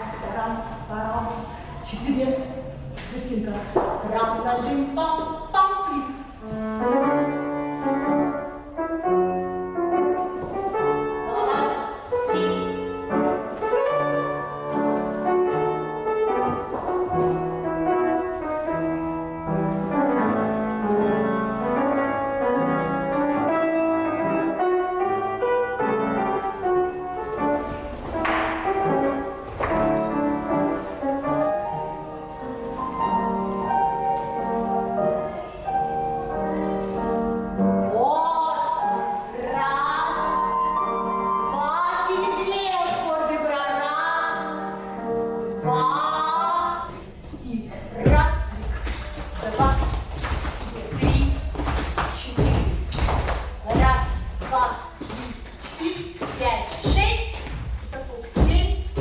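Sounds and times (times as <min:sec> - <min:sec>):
instrumental piano music: 0:03.6 - 0:55.3.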